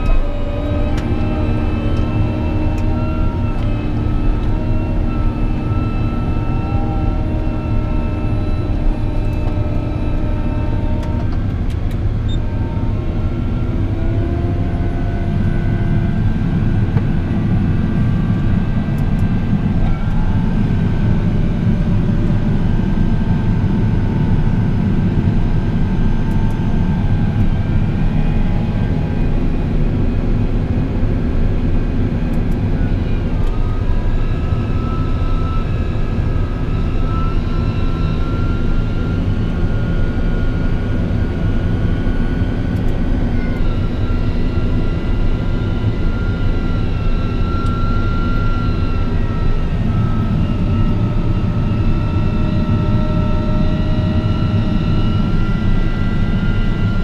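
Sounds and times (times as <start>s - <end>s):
steady high whine: 0.0s - 57.0s
tractor engine drone: 0.0s - 57.0s.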